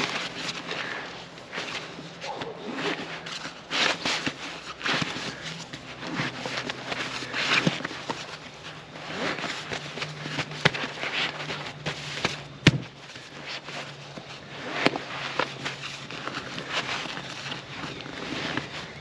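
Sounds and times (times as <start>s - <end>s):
nylon fabric rustling: 0.0s - 19.0s
straps pulled through buckles: 0.0s - 19.0s.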